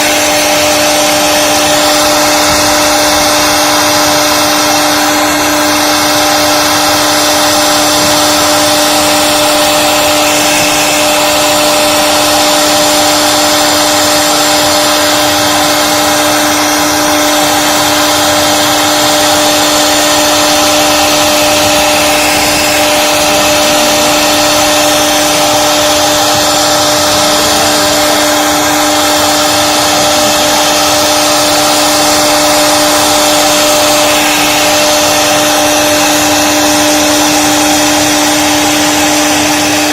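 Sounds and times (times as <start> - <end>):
hiss of cutting: 0.0 - 39.9
router spindle running: 0.0 - 39.9.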